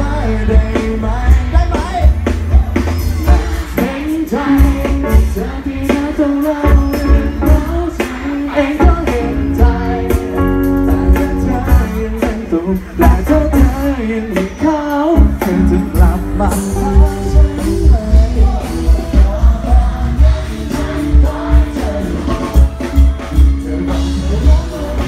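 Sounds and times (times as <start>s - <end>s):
live band drums and bass: 0.0s - 25.0s
man singing: 0.0s - 25.0s.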